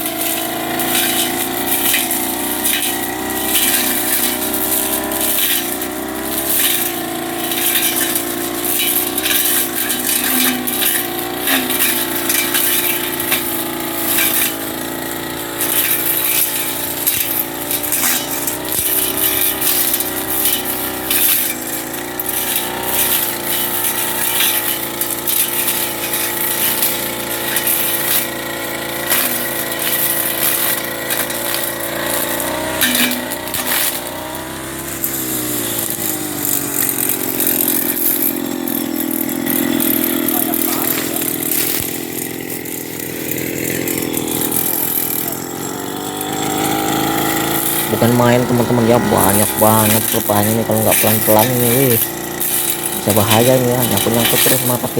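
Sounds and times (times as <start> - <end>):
blade ticking on stems: 0.0 - 54.9
brush cutter engine running: 0.0 - 54.9.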